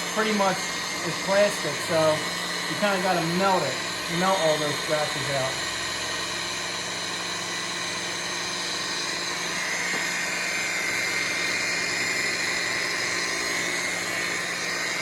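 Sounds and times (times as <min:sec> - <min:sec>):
rotary buffer motor whine: 0:00.0 - 0:15.0.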